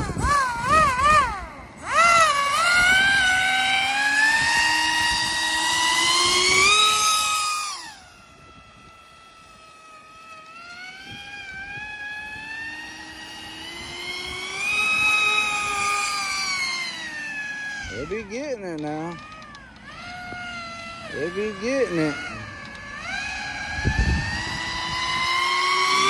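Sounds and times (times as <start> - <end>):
airboat motor and propeller whining: 0.0 - 26.0.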